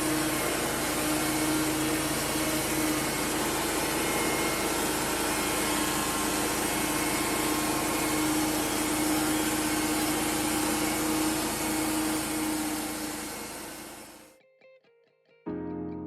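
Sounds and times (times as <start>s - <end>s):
band sawmill humming: 0.0s - 14.2s.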